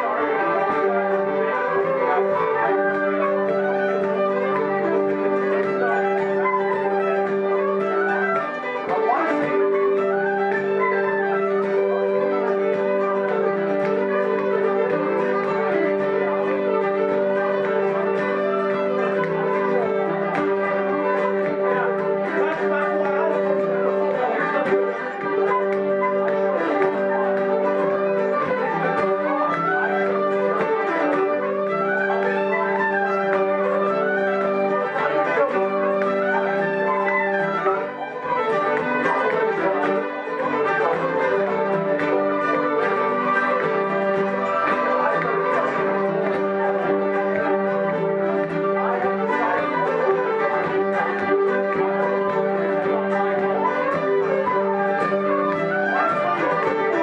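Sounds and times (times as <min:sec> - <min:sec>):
bagpipe drone: 0:00.0 - 0:57.0
fiddle: 0:00.0 - 0:57.0
pipes melody: 0:00.0 - 0:57.0
wooden flute: 0:00.0 - 0:57.0.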